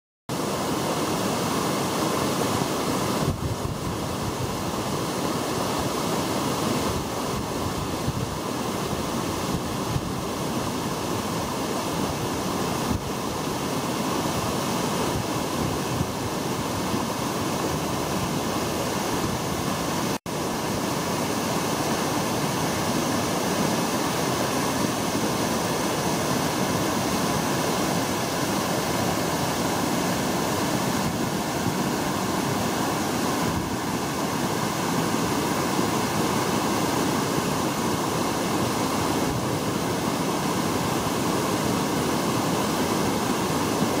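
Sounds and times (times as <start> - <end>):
water rushing over rocks: 0.3 - 44.0.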